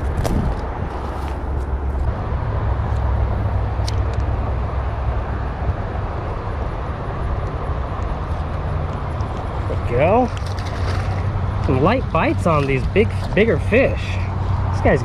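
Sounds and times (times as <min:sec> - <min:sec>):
highway traffic passing: 0:00.0 - 0:15.0.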